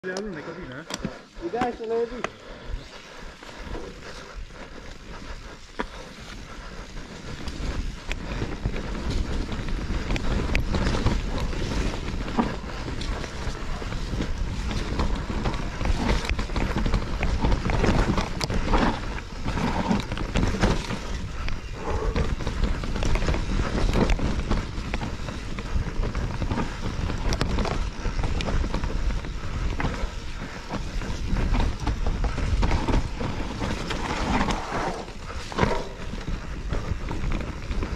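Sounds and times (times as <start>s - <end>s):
tyres on dirt: 0.0s - 37.9s
bike clattering and rattling: 0.2s - 37.9s
wind rushing over microphone: 1.3s - 37.9s.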